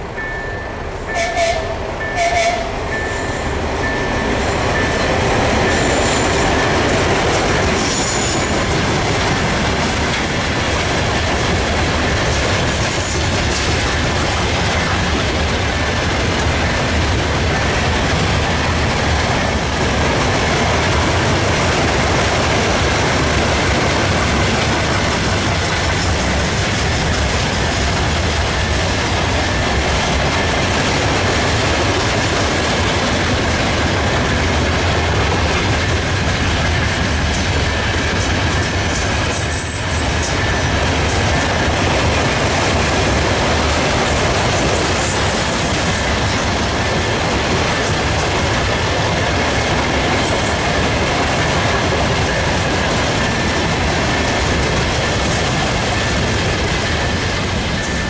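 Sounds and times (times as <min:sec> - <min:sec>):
freight train rumble and clatter: 0:00.0 - 0:58.0.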